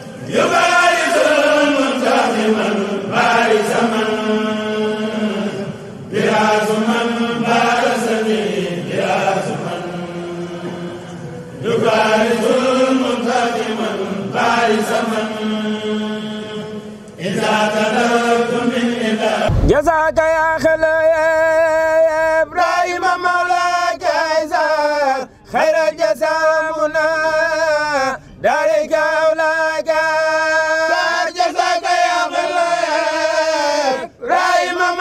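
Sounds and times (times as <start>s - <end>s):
man singing a religious chant: 0.4s - 11.0s, 11.6s - 35.0s.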